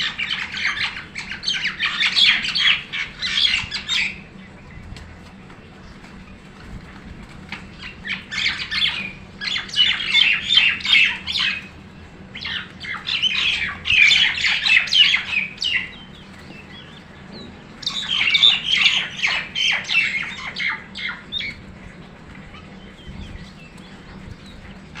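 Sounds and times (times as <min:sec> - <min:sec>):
birds squawking harshly: 0:00.0 - 0:25.0.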